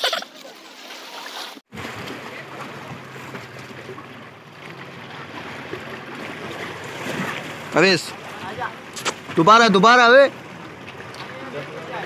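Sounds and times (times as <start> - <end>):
wind and waves: 0.0 - 12.0.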